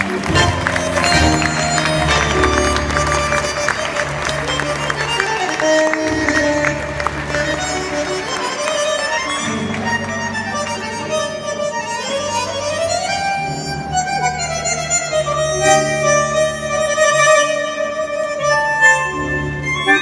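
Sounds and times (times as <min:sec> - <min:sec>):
tango orchestra with bandoneons: 0:00.0 - 0:20.0.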